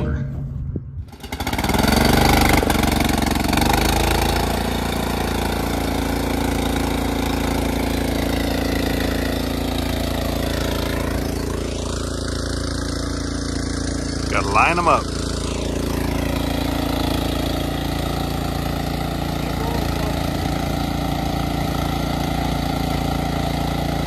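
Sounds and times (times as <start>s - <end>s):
small engine running: 1.0s - 24.0s.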